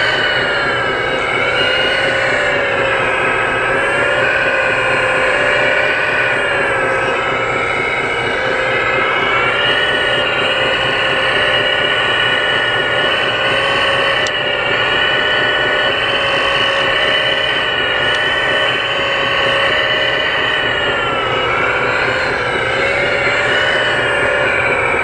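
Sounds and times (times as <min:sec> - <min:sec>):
toy excavator hydraulic pump whining: 0:00.0 - 0:25.0.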